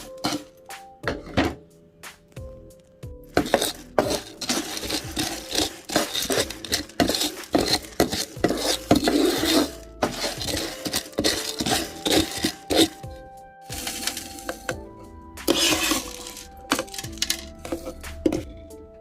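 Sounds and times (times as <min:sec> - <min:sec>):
dishes and utensils clattering: 0:00.0 - 0:01.6, 0:03.3 - 0:13.1, 0:13.7 - 0:14.8, 0:15.4 - 0:18.7.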